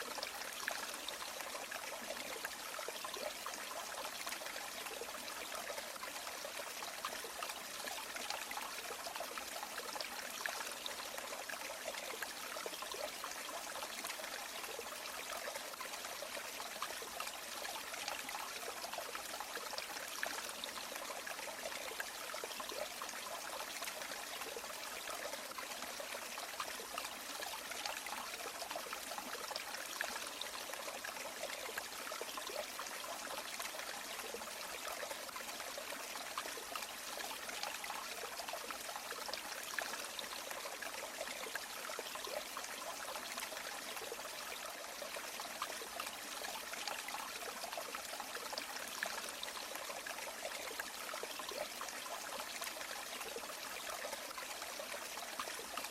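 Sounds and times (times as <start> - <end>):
stream water running over stones: 0.0 - 55.9.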